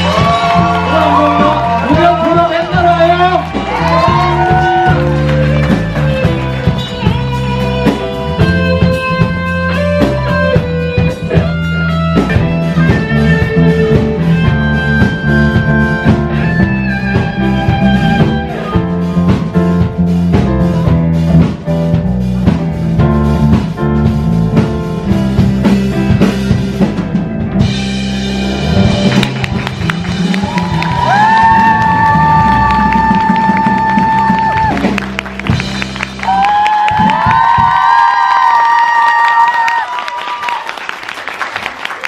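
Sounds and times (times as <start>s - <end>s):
guitar: 0.0s - 37.8s
bass line: 0.0s - 38.9s
drum kit beat: 0.0s - 39.2s.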